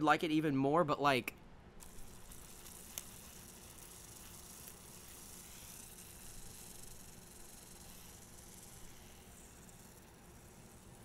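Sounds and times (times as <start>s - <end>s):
fidget spinner whirring: 1.8s - 11.0s.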